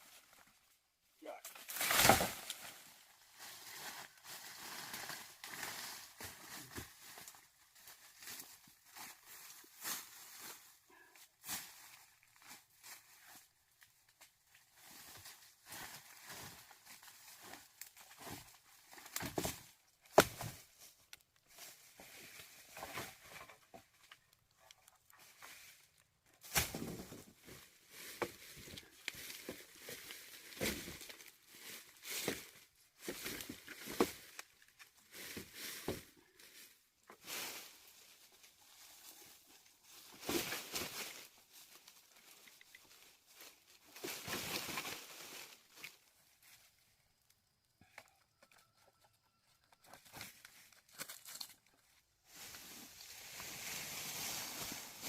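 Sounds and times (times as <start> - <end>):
rustling and crinkling: 1.4 - 55.0.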